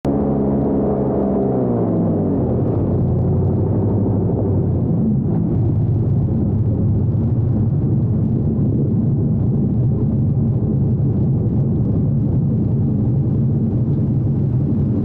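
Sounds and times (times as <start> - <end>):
airboat engine droning: 0.0 - 15.0.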